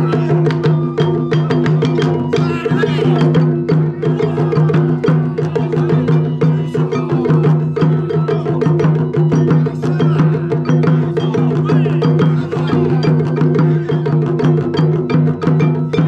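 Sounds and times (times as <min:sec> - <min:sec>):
drum ensemble playing: 0:00.0 - 0:16.0.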